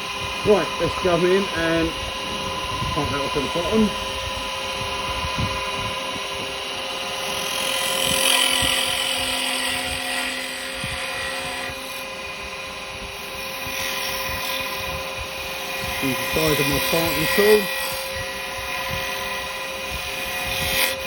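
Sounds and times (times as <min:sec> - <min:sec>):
turning tool cutting wood: 0:00.0 - 0:21.0
wood lathe motor hum: 0:00.0 - 0:21.0.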